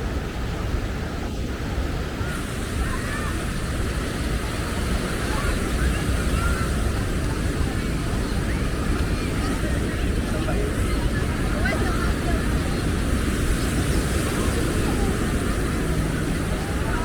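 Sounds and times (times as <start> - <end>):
low wind rumble: 0.0 - 17.0
surf washing: 0.0 - 17.0
faint distant voices: 0.1 - 17.0.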